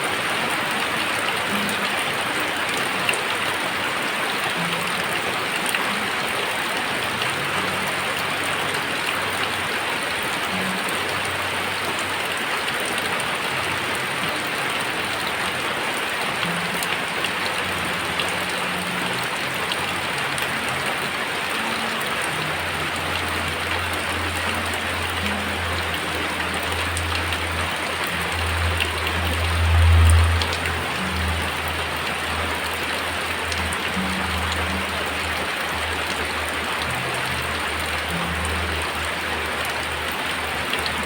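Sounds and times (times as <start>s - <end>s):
very heavy rain: 0.0s - 41.0s.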